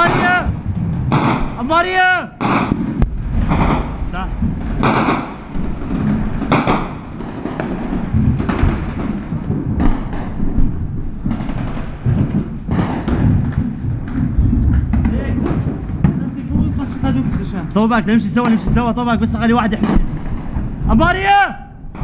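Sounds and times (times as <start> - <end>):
low rumble: 0.0 - 1.8, 2.7 - 22.0
gunshots: 0.0 - 22.0.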